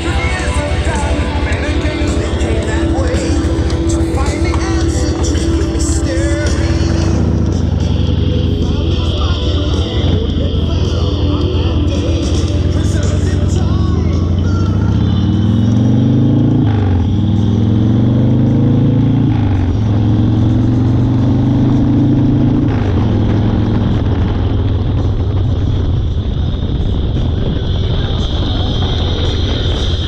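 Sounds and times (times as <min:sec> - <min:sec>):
motorcycle accelerating through gears: 0:00.0 - 0:30.0.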